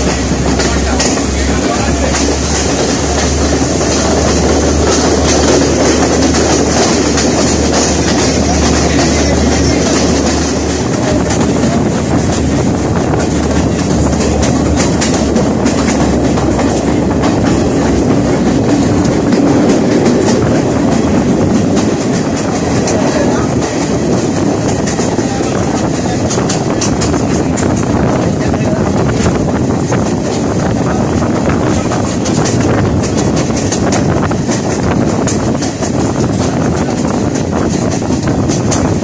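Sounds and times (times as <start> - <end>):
train wheels clickety-clack on rails: 0.0 - 39.0.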